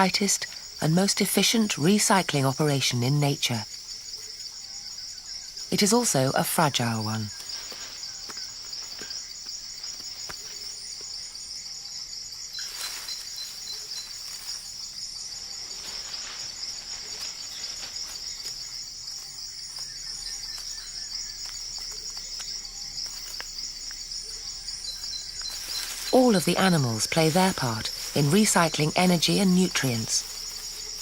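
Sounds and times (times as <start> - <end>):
fast pulsing insect trill: 0.0 - 31.0
insects droning chorus: 0.0 - 31.0.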